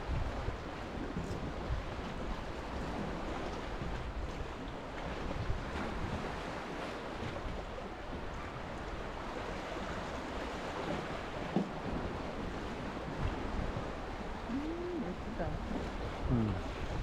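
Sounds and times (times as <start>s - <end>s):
sea waves lapping: 0.0s - 17.0s
wind on microphone: 0.0s - 17.0s.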